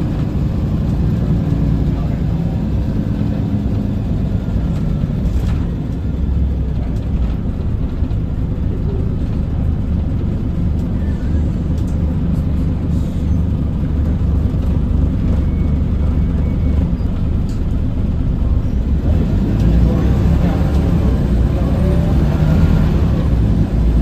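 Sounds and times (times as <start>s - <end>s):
bus diesel engine drone: 0.0s - 24.0s.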